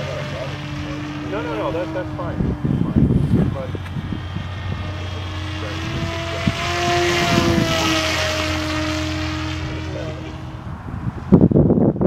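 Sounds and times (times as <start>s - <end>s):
electric motor propeller whine: 0.0s - 11.7s.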